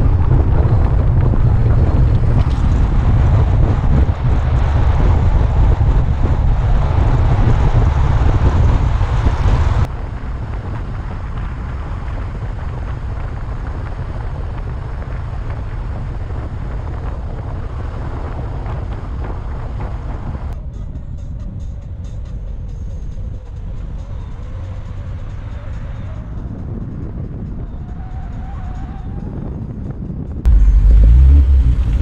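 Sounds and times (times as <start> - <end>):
wind buffeting microphone: 0.0 - 20.6, 23.3 - 32.0
road noise: 0.0 - 32.0.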